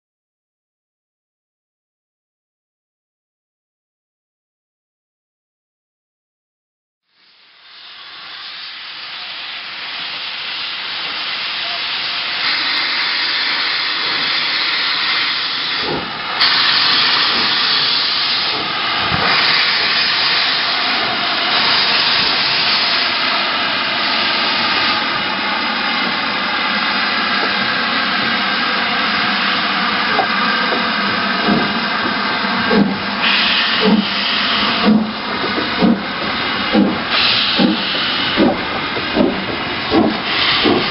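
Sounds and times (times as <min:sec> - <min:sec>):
steam locomotive venting steam: 0:07.1 - 0:40.9.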